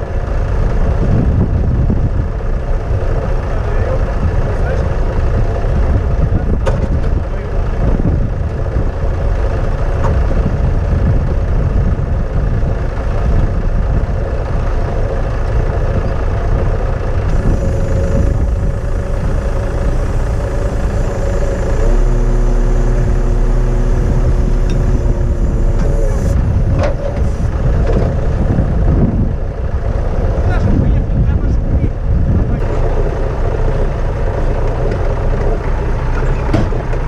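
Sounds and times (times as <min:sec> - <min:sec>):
truck diesel engine running: 0:00.0 - 0:37.0
wind buffeting microphone: 0:00.0 - 0:37.0.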